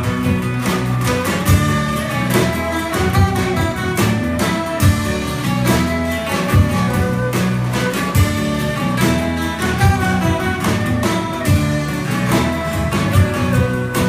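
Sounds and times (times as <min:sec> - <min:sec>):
drum kit beat: 0:00.0 - 0:14.0
flute melody: 0:00.0 - 0:14.0
plucked bouzouki: 0:00.0 - 0:14.0
strummed acoustic guitar: 0:00.0 - 0:14.0.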